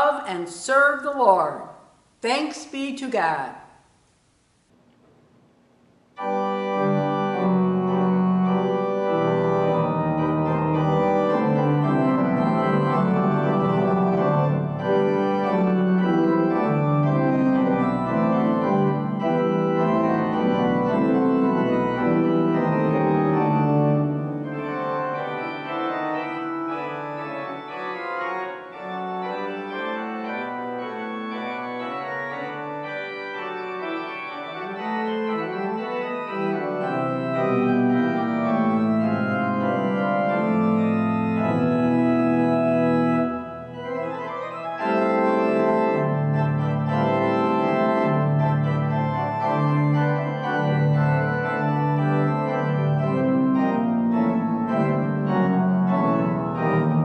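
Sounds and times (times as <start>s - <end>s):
church organ chords: 6.2s - 57.0s.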